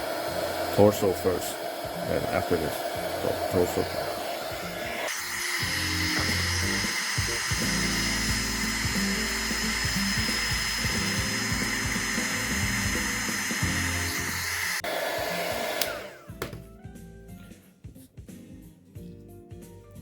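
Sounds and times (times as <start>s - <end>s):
heat gun blowing: 0.0s - 16.6s
background music: 0.2s - 14.8s, 15.4s - 20.0s.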